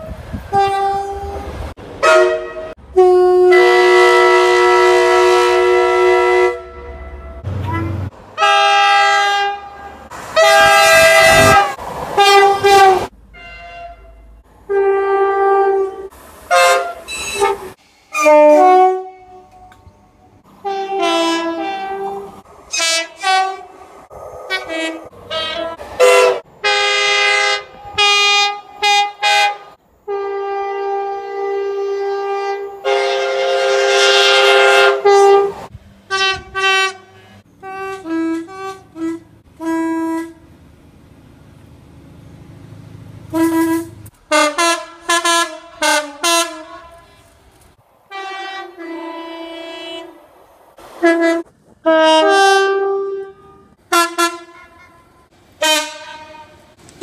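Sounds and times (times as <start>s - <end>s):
two-tone train horn blasts: 0.0s - 20.0s, 20.6s - 23.8s, 24.5s - 40.5s, 43.3s - 47.4s, 48.1s - 50.2s, 51.0s - 56.8s.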